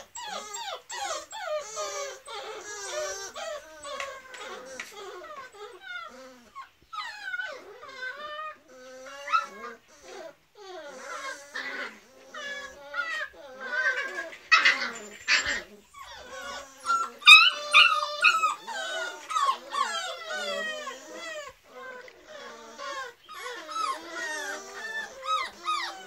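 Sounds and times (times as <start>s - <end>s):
puppies whining and yelping: 0.0s - 26.0s.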